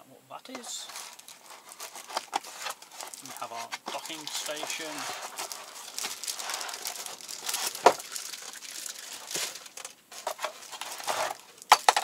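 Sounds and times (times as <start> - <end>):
plastic bag crinkling: 0.6 - 12.0.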